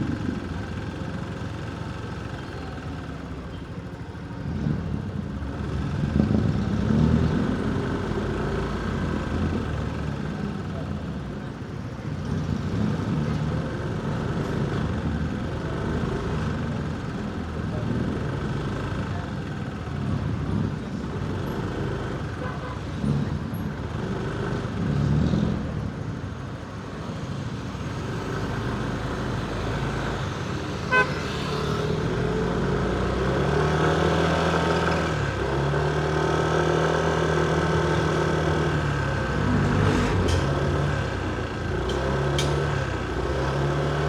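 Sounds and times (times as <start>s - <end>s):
motorcycle engine and road noise: 0.0s - 44.0s.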